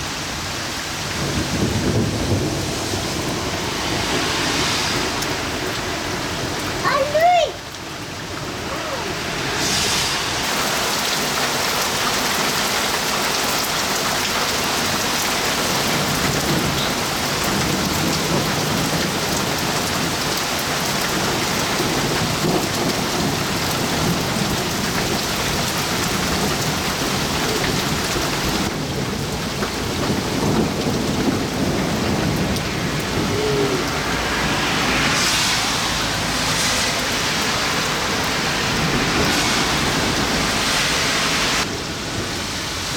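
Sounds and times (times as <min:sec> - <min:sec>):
heavy rain downpour: 0:00.0 - 0:42.9
thunder rumbling: 0:01.0 - 0:06.8, 0:13.8 - 0:42.4.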